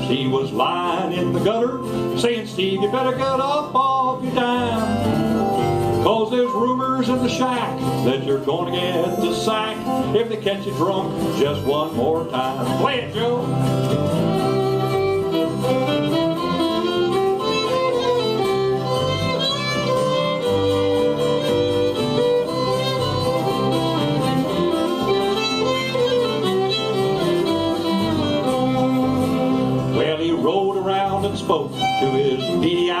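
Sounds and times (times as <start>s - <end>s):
fiddle melody: 0.0s - 33.0s
harmonica: 0.0s - 33.0s
strummed acoustic guitars: 0.0s - 33.0s.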